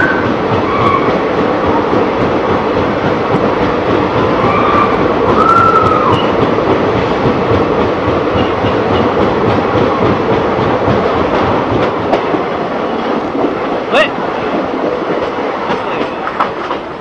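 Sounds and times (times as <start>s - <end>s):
train wheels rumbling in tunnel: 0.0s - 17.0s
wheels clickety-clack: 0.0s - 17.0s.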